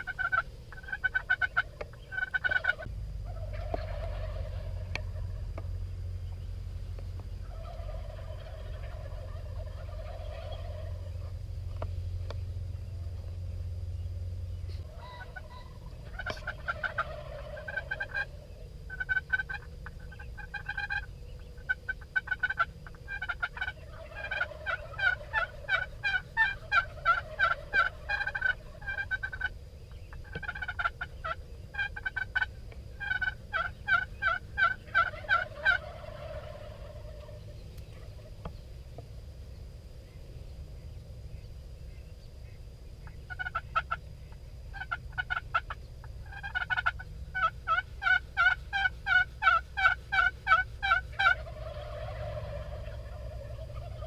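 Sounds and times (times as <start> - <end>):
low wind rumble: 0.0 - 54.0
wild turkeys calling: 0.0 - 54.0.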